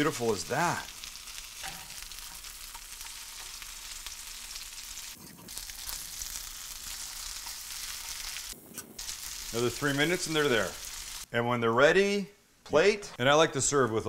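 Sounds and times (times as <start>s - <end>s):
food sizzling in a skillet: 0.0s - 11.3s.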